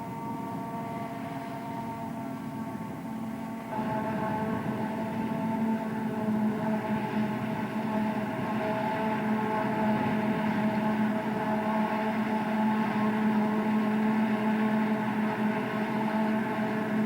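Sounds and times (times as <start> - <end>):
harvester engine hum: 0.0 - 17.0
machine whine: 0.0 - 17.0.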